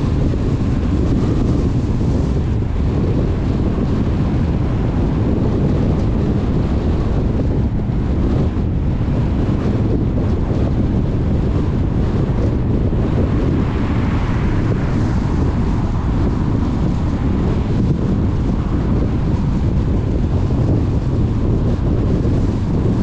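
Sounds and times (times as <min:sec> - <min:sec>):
wind and road noise in car: 0:00.0 - 0:23.0.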